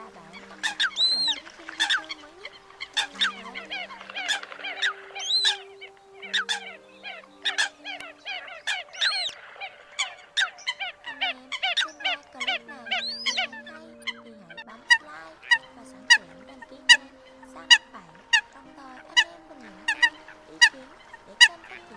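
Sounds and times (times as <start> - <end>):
flock of coots calling: 0.0 - 21.9.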